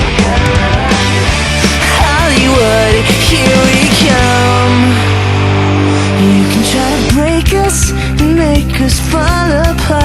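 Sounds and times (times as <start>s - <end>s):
pop-rock song: 0.0s - 10.0s.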